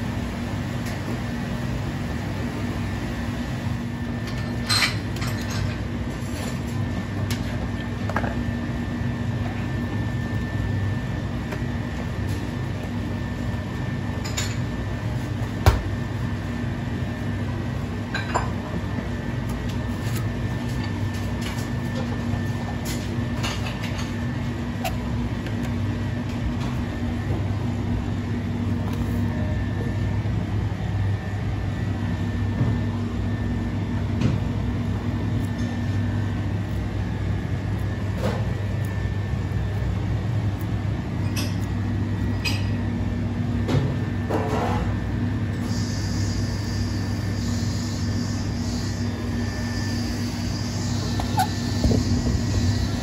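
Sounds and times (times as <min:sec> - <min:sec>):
kitchen machinery hum: 0:00.0 - 0:53.0.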